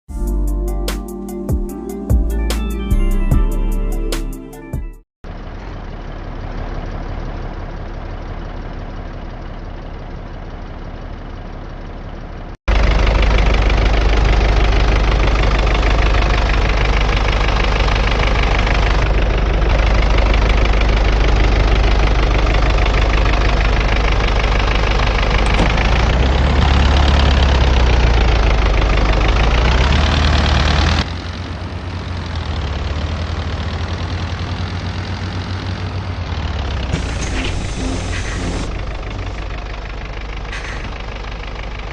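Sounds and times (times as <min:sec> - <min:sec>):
bus engine droning: 0:00.1 - 0:41.9.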